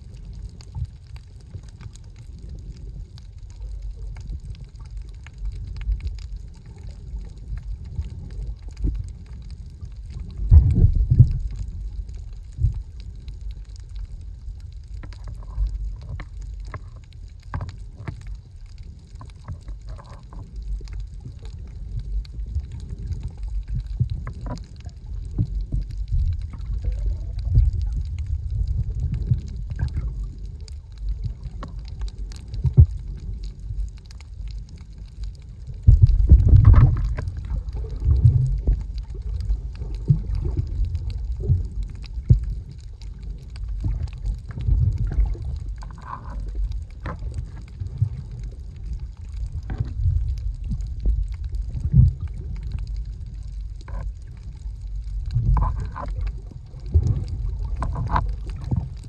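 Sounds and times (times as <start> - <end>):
muffled underwater water rumbling: 0.0 - 59.0
underwater clicks and gurgles: 0.0 - 59.0.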